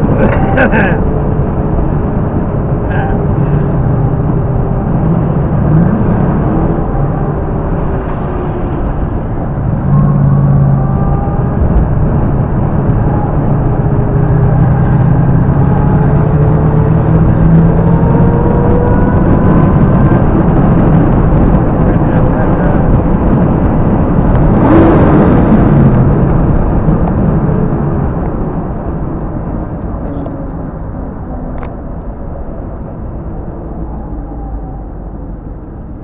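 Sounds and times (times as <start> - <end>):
road noise: 0.0 - 36.0.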